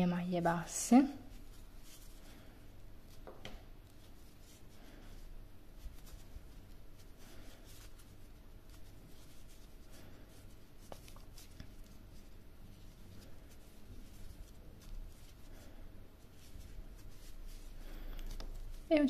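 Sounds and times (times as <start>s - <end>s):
crochet hook rustling yarn: 0.0s - 19.0s.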